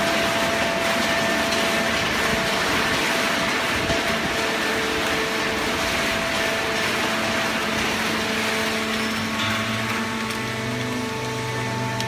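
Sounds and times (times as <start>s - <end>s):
machine hums: 0.0s - 12.0s.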